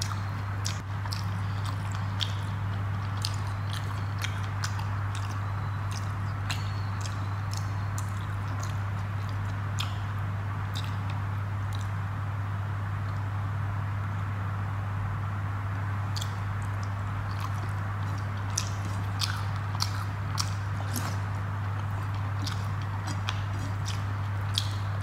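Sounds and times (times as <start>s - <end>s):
lip smacks: 0.0s - 12.0s, 16.1s - 25.0s
person chewing food: 0.0s - 12.0s, 16.0s - 25.0s.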